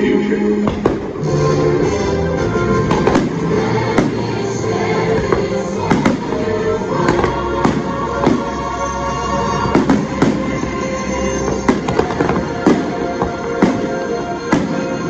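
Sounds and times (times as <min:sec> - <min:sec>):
music over loudspeakers: 0:00.0 - 0:15.0.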